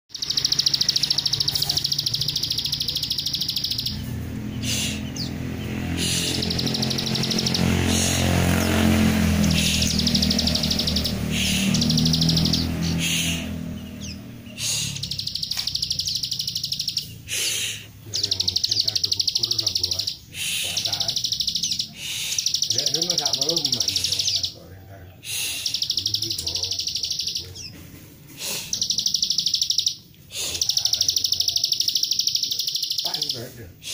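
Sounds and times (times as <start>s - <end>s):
bird high trill: 0.1s - 33.9s.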